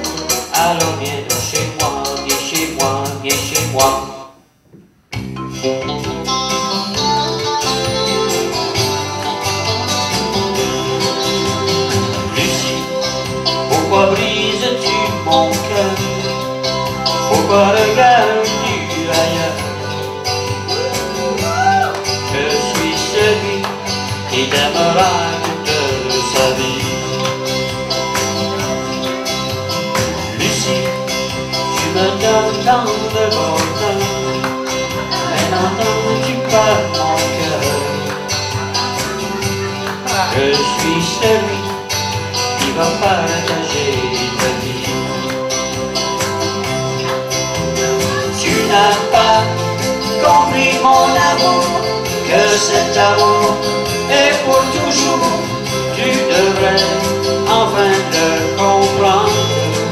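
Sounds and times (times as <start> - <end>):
bass guitar: 0.0 - 4.3, 5.1 - 59.9
electric guitars: 5.1 - 59.9.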